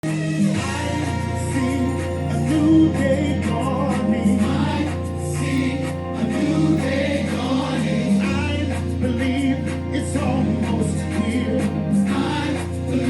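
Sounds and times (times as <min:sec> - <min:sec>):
choir singing: 0:00.4 - 0:13.0
sustained low bass notes: 0:00.6 - 0:13.0.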